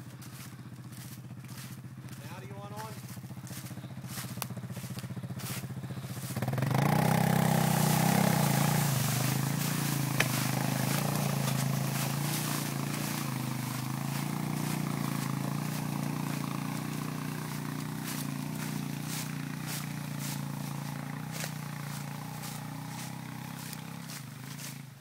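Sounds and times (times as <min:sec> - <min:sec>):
small vehicle engine running: 0:00.0 - 0:25.0.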